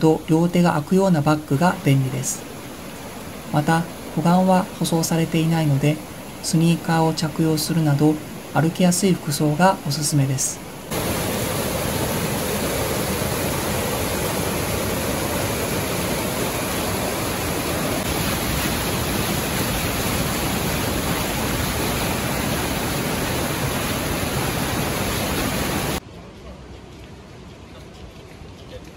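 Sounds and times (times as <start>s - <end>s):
white water rushing: 0.0s - 26.0s.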